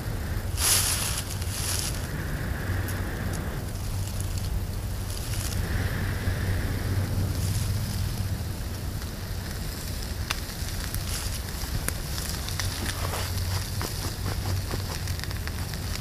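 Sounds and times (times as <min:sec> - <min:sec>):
wind rumble on microphone: 0:00.0 - 0:16.0
wood fire crackling: 0:00.0 - 0:16.0.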